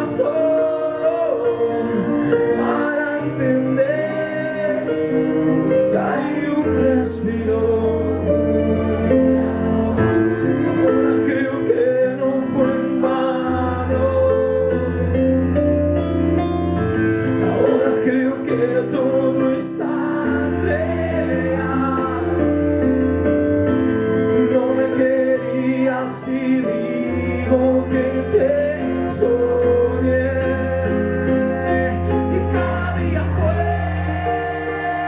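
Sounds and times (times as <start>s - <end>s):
man singing: 0.0s - 15.8s, 17.0s - 23.3s, 24.1s - 35.0s
keyboard: 0.0s - 35.0s
violin: 0.0s - 35.0s.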